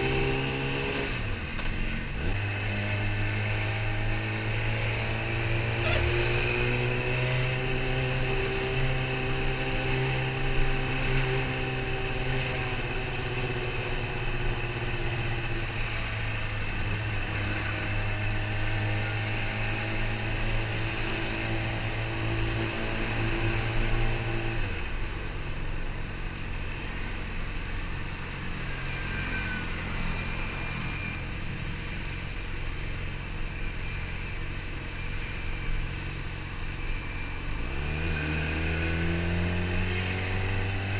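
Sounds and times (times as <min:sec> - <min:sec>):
motorcycle engine running: 0:00.0 - 0:40.8
road and wind noise: 0:00.0 - 0:40.9.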